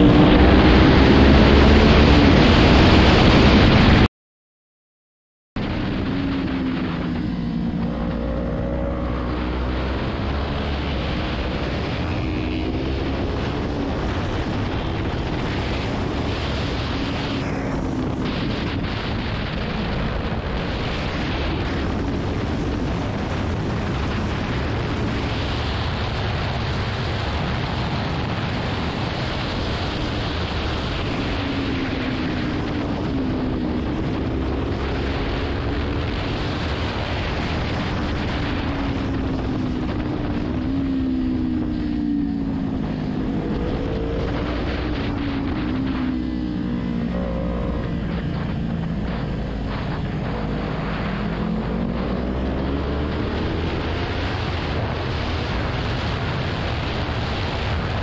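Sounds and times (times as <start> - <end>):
motorcycle engine accelerating: 0.0 - 4.1, 5.6 - 58.0
wind buffeting microphone: 5.6 - 58.0.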